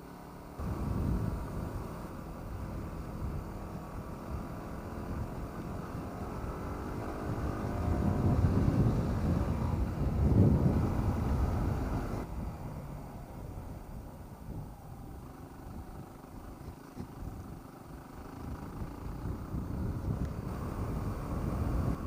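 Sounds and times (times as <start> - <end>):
motorcycle engine running: 0.0 - 22.0
wind buffeting microphone: 0.6 - 17.6, 18.3 - 22.0.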